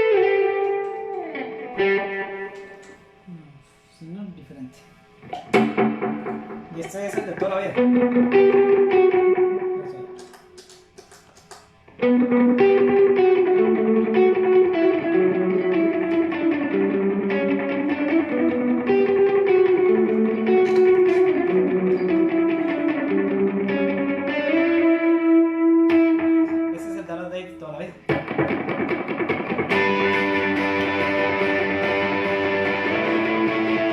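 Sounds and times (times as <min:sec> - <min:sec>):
electric guitar with delay: 0:00.0 - 0:11.0, 0:11.7 - 0:33.9.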